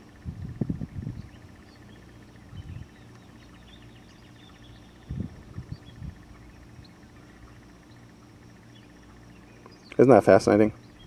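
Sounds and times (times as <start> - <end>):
faint insect trill: 0.0 - 11.0
faint bird chirps: 0.9 - 11.0.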